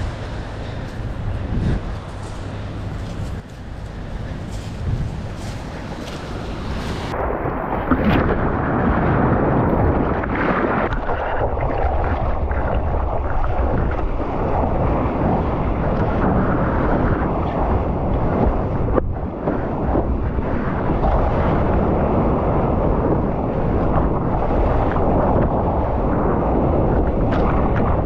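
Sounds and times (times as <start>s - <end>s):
rushing seawater: 0.0s - 28.0s
wind buffeting microphone: 0.0s - 28.0s.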